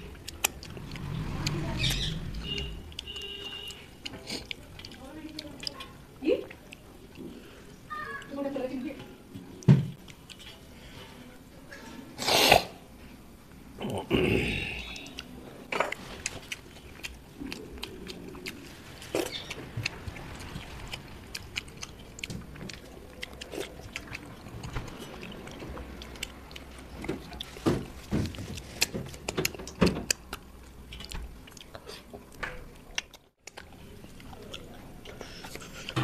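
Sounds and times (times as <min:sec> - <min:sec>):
chewing: 0:00.0 - 0:08.3, 0:09.4 - 0:11.3, 0:13.8 - 0:36.0.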